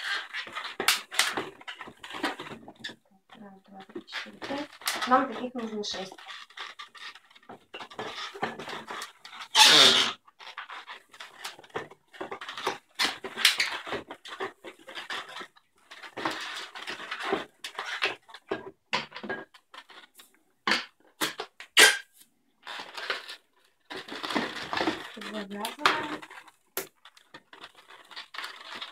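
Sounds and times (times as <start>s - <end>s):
balloons squeaking and rubbing: 0.0s - 18.8s, 19.5s - 20.5s, 21.2s - 28.9s.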